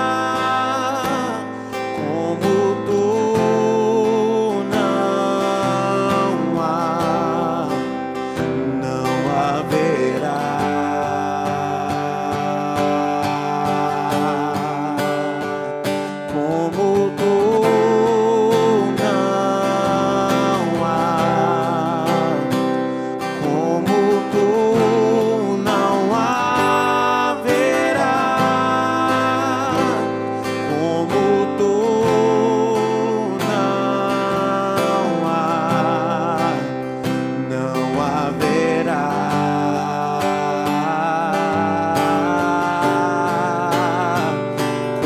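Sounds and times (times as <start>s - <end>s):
person singing: 0.0s - 45.0s
strummed acoustic guitar: 0.0s - 45.0s.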